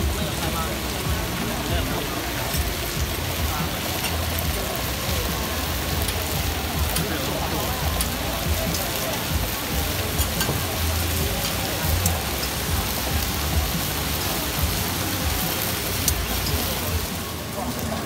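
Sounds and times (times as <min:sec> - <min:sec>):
chicken sizzling on griddle: 0:00.0 - 0:18.0.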